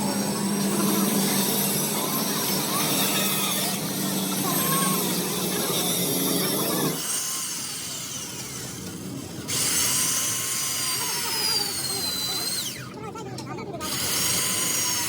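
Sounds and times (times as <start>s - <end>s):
power tool whining: 0.0s - 13.0s, 13.8s - 15.0s.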